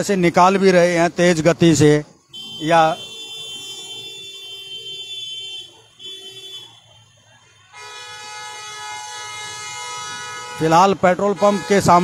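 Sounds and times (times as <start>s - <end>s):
vehicle horn honking: 2.3s - 12.0s.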